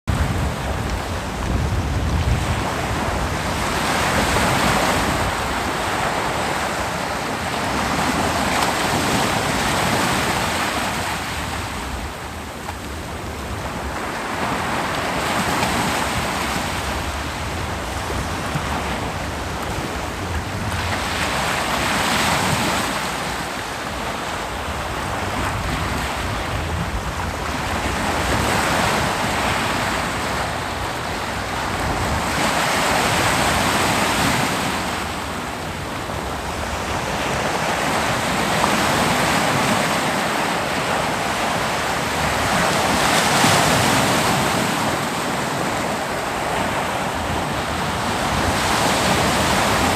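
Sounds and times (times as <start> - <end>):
ocean surf breaking on beach: 0.1 - 49.9.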